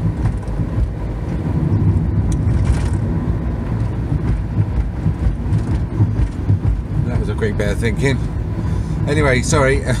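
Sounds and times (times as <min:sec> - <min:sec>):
van engine and road noise: 0:00.0 - 0:10.0.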